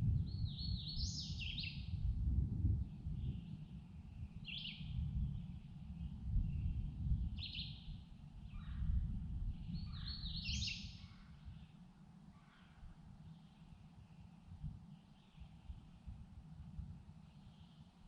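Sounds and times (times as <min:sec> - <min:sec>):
songbirds chirping: 0:00.2 - 0:02.0, 0:02.8 - 0:18.0.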